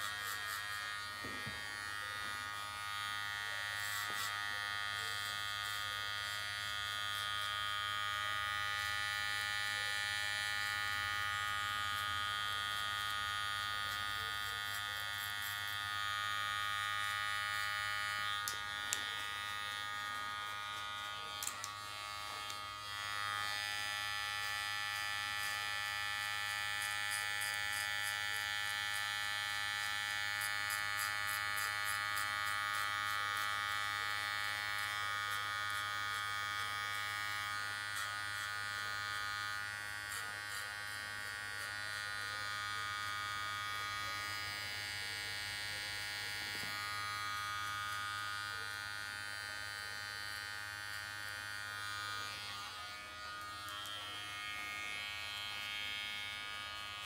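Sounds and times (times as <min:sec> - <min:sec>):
hair clipper buzzing: 0:00.0 - 0:57.0.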